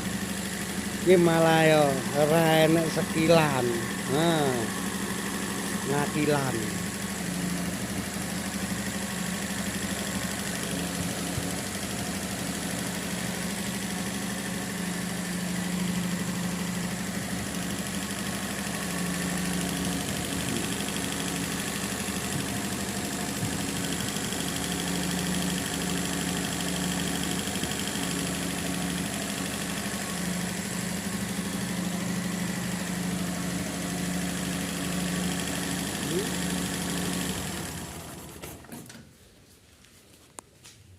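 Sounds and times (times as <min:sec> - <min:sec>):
small engine idling: 0:00.0 - 0:39.0.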